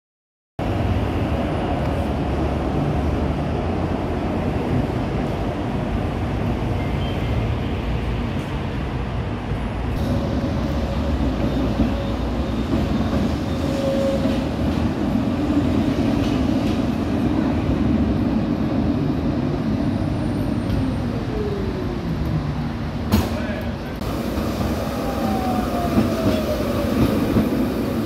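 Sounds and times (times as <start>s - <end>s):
tram rumbling on rails: 0.6s - 28.0s.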